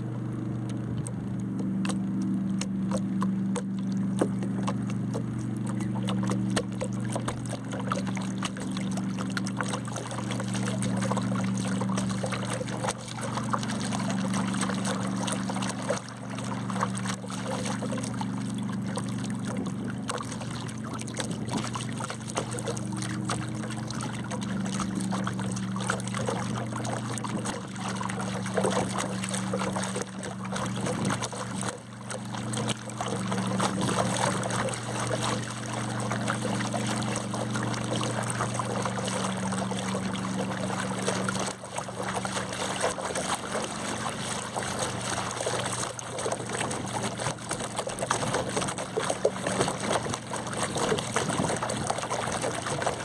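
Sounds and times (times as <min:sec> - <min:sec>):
steady low hum: 0:00.0 - 0:53.0
water splashing and trickling: 0:00.6 - 0:53.0.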